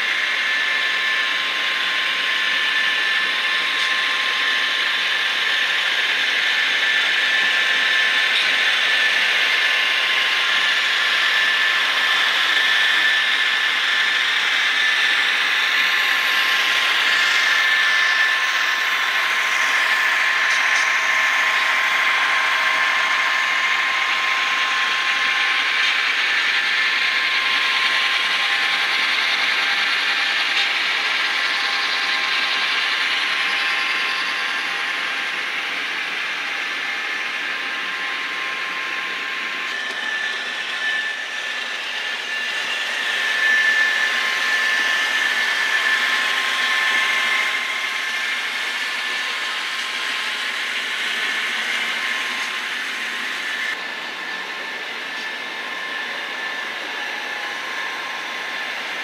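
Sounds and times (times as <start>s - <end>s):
model train motor whine: 0.0s - 59.0s.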